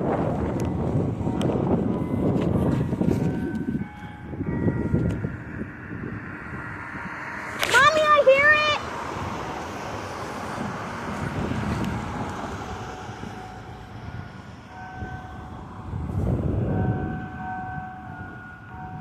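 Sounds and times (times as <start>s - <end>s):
church bells chiming: 0.0s - 9.3s, 11.7s - 19.0s
steady low rumble: 0.0s - 18.4s.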